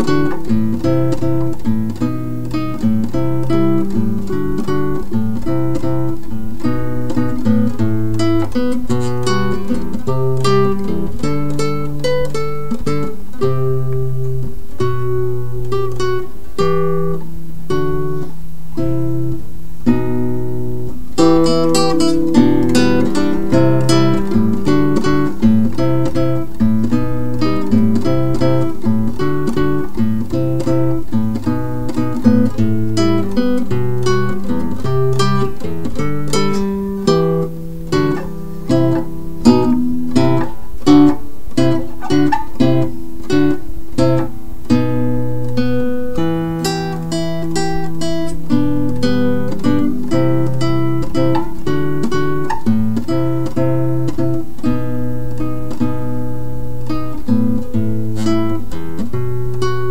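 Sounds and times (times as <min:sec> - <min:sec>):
acoustic guitar plucking: 0:00.0 - 0:59.9.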